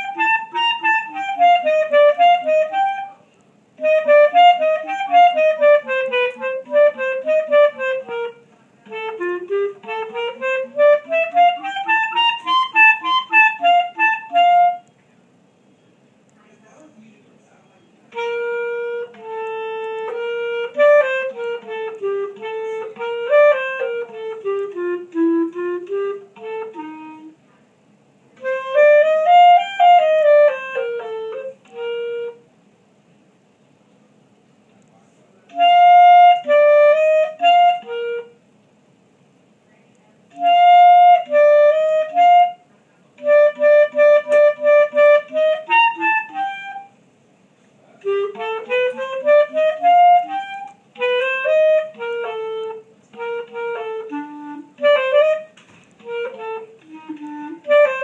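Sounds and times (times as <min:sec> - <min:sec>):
solo clarinet melody: 0:00.0 - 0:15.0, 0:18.1 - 0:32.6, 0:35.5 - 0:38.5, 0:40.2 - 0:47.0, 0:47.9 - 0:58.0.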